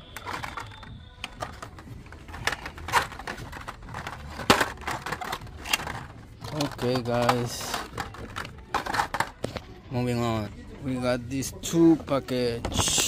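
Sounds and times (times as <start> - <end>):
toy car packages clicking and rattling: 0.0 - 9.7, 11.8 - 13.0.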